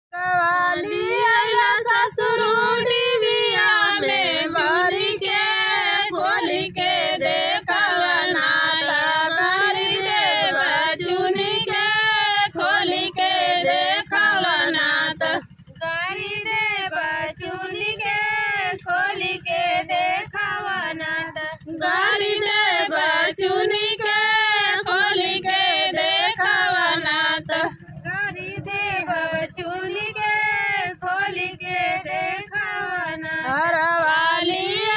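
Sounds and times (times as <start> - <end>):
women singing folk song: 0.2 - 34.9.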